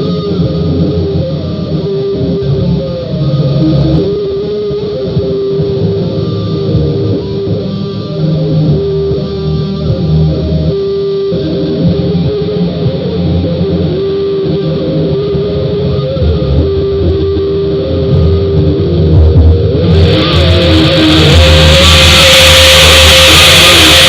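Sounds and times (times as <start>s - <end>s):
distorted guitar music: 0.0s - 24.0s.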